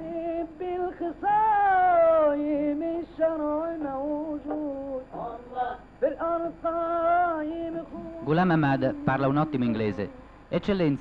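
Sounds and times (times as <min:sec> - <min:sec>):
solo voice singing: 0:00.0 - 0:10.4.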